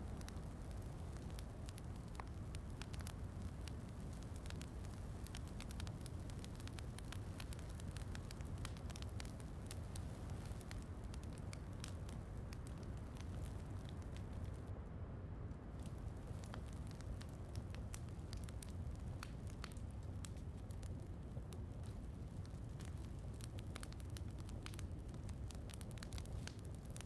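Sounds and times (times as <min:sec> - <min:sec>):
wood fire crackling: 0:00.0 - 0:14.9, 0:15.5 - 0:27.0.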